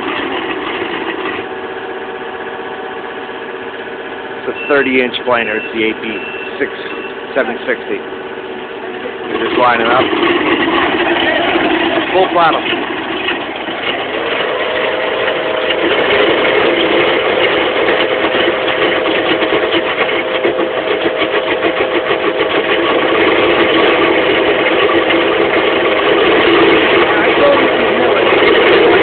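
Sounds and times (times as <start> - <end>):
rhythmic chatter of planer drum: 0.0 - 29.0
steady whine: 0.0 - 29.0
track loader at full throttle: 0.0 - 29.0.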